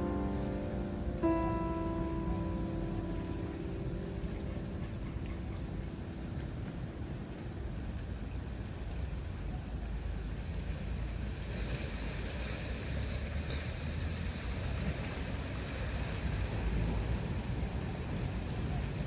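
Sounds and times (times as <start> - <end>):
small sea waves lapping: 0.0 - 19.0
wind rumbling on microphone: 0.0 - 19.0.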